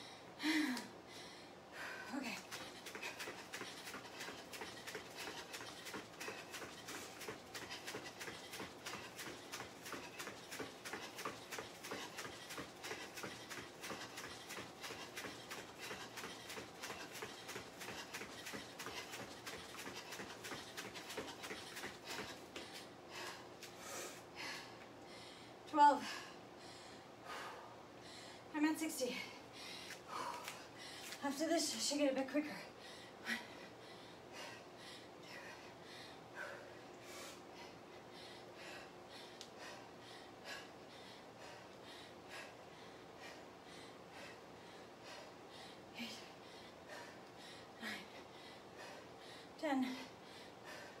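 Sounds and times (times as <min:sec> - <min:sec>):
hard breathing: 0:00.0 - 0:28.5, 0:32.6 - 0:51.0.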